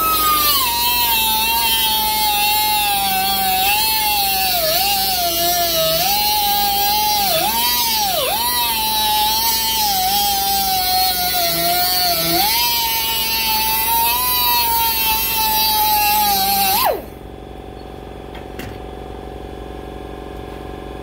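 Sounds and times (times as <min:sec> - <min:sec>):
air die grinder cutting steel: 0:00.0 - 0:17.1.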